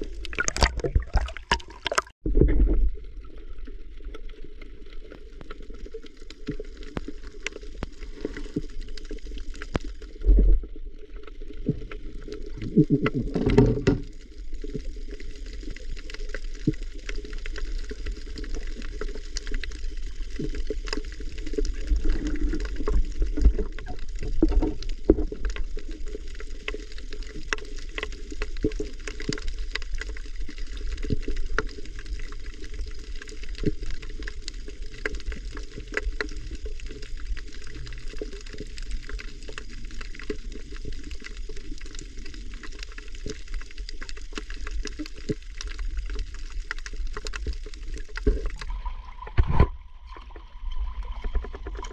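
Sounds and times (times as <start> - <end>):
muffled underwater wash: 0.0 - 51.9
underwater clicks and crackles: 0.0 - 51.9.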